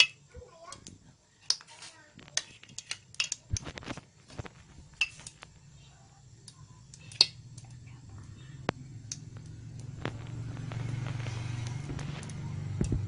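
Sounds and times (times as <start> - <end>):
gas burner flame hum: 0.0 - 13.0.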